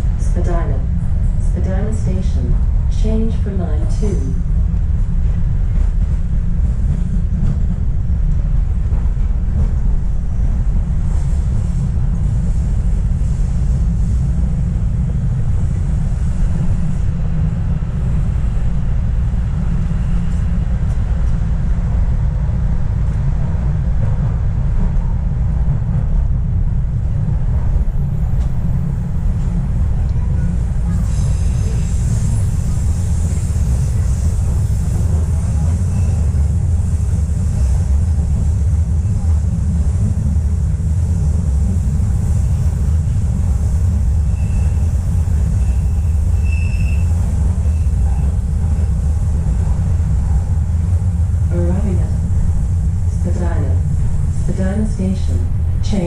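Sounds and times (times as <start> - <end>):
subway train rumbling in tunnel: 0.0 - 56.0.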